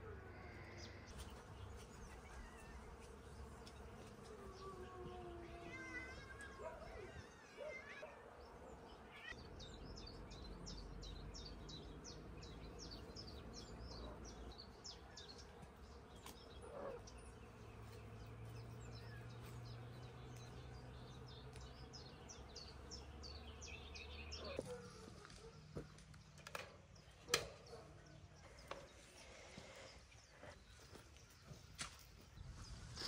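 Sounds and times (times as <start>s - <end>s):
low outdoor background hum: 0.0s - 33.0s
songbird chirping: 0.0s - 33.0s.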